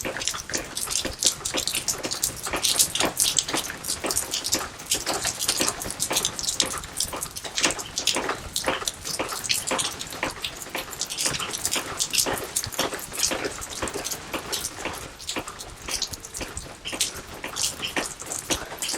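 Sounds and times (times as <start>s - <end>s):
rain drops splashing: 0.0s - 18.9s.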